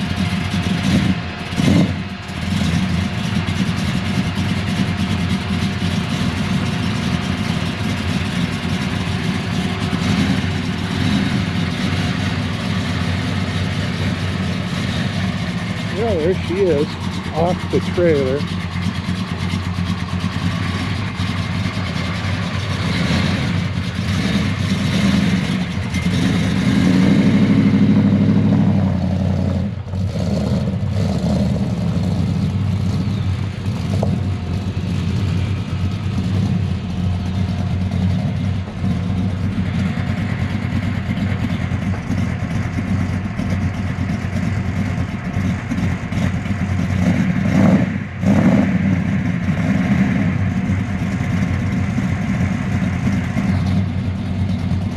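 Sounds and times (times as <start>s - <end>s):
vehicle engine idling: 0.0s - 54.9s.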